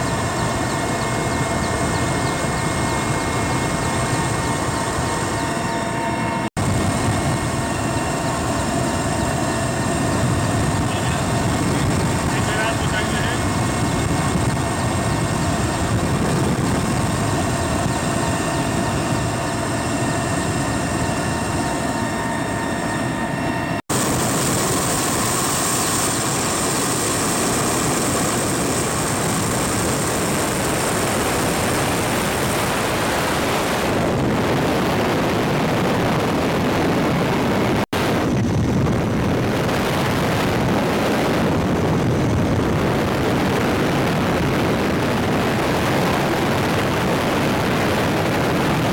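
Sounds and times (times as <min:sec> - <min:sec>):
helicopter engine and rotor noise: 0:00.0 - 0:48.9.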